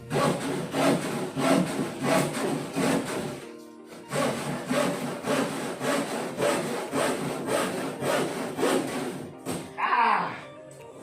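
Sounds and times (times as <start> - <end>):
hand saw cutting wood: 0.0 - 9.7.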